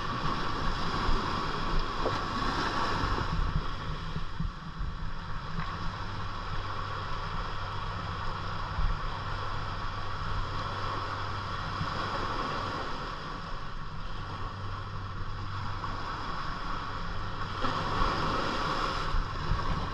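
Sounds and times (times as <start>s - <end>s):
constant low hum: 0.0s - 19.9s
water noise: 0.0s - 19.9s
wind on microphone: 0.0s - 19.9s.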